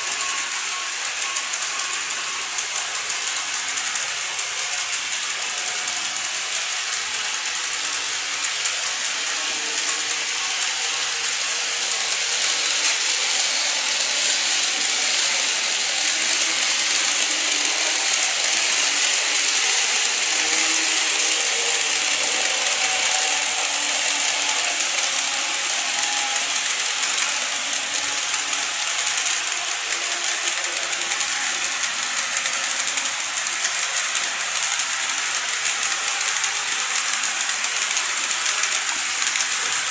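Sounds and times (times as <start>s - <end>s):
model train rattle and whir: 0.0s - 39.9s.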